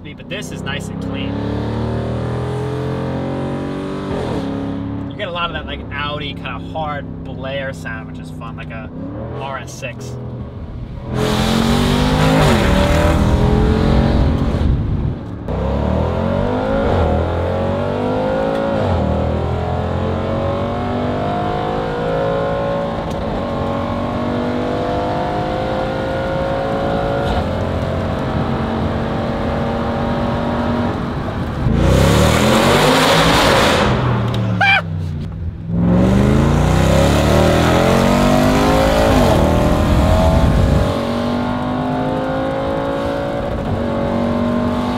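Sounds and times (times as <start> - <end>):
car engine accelerating hard: 0.3 - 6.0, 10.3 - 34.8, 35.7 - 44.9.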